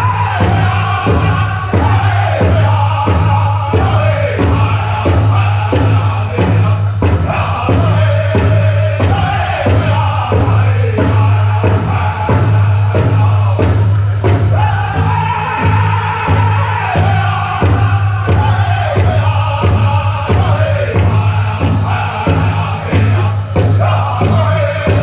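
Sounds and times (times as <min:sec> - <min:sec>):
big drum beating: 0:00.0 - 0:25.0
group singing: 0:00.0 - 0:25.0.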